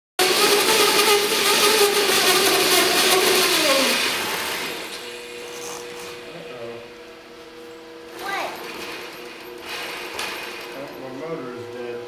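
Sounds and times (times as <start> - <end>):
bandsaw motor whine: 0.2 - 12.0.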